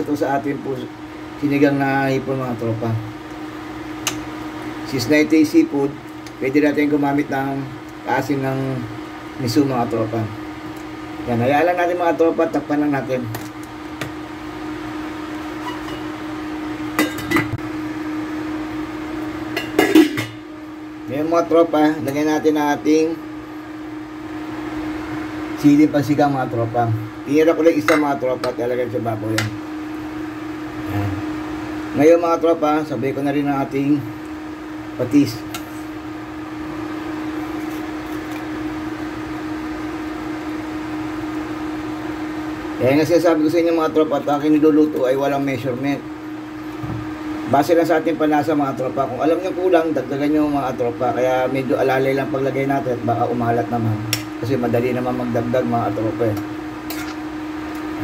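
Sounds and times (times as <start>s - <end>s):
cooktop humming: 0.0s - 58.0s.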